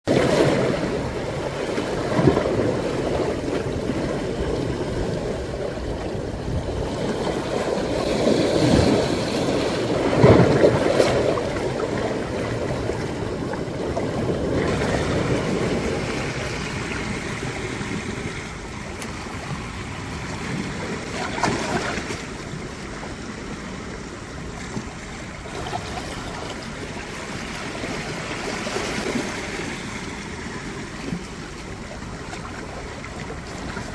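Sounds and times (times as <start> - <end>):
waves washing over rocks: 0.1 - 33.9.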